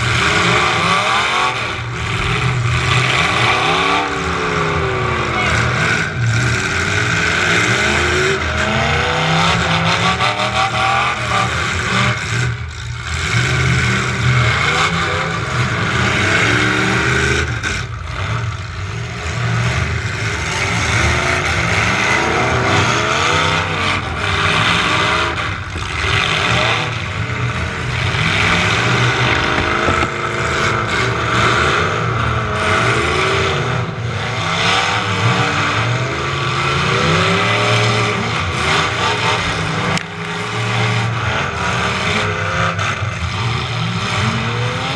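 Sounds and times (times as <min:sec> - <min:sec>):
truck engine revving hard: 0:00.0 - 0:44.9.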